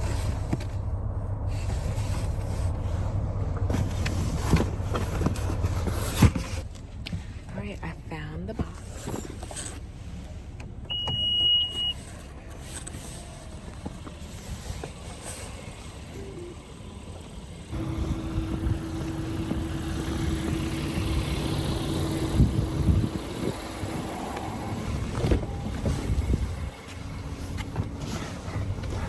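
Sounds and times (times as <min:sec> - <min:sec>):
car running noise: 0:00.0 - 0:29.0.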